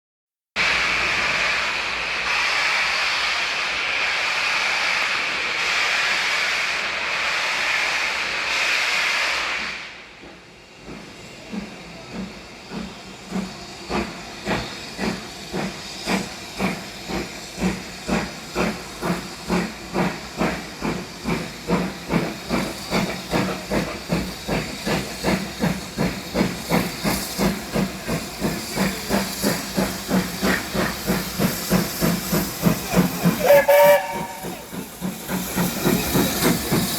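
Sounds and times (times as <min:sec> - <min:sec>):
loud hiss of steam: 0:00.6 - 0:36.9
steam locomotive exhaust chuffs: 0:00.6 - 0:36.9.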